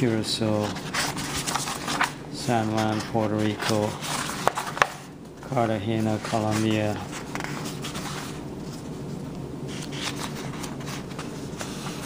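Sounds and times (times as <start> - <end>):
rustling and clicking handling noise: 0.0 - 12.0
steady low hum: 0.0 - 12.0.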